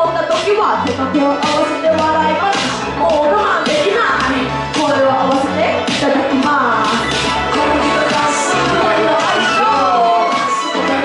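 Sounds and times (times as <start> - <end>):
amplified backing track with beat: 0.0 - 11.0
woman singing into microphone: 0.0 - 11.0.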